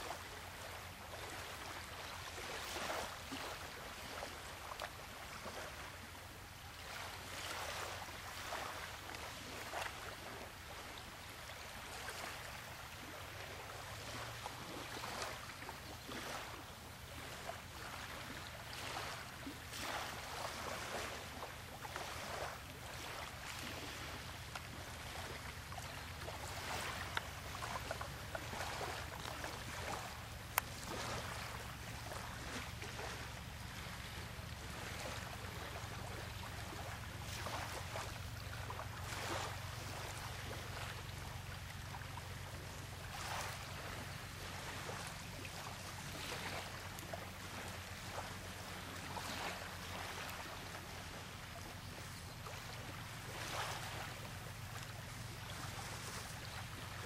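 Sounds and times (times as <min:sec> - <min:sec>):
water: 0:00.0 - 0:57.0
wind: 0:00.0 - 0:57.0.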